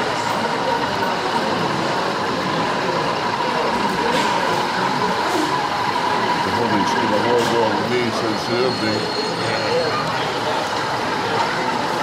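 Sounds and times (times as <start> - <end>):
diesel engine sound through small speaker: 0.0 - 12.0.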